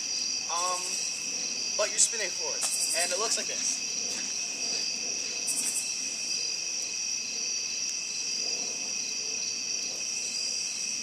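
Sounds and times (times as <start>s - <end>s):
crickets trilling: 0.0s - 11.0s
rapid insect chirps: 0.0s - 11.0s.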